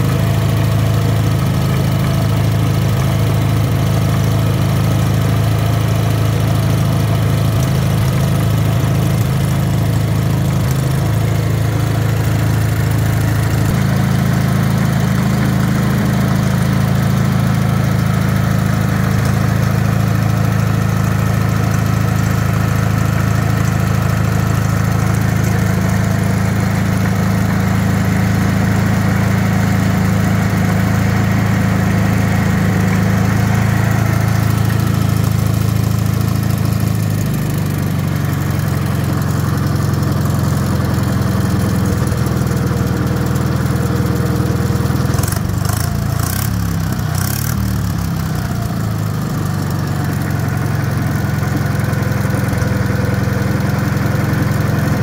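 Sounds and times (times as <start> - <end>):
air-cooled engine running: 0.0 - 55.0.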